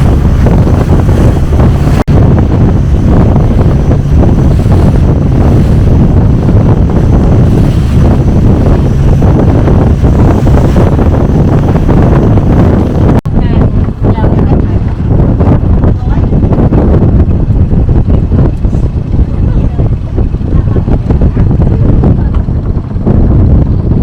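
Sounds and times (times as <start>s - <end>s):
boat engine running: 0.0s - 24.0s
wind buffeting the microphone: 0.0s - 24.0s.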